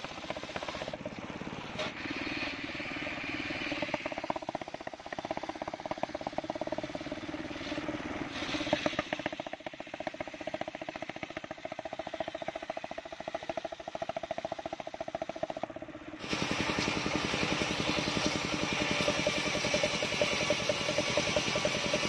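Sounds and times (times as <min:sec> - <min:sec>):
saw engine running: 0:00.0 - 0:22.0.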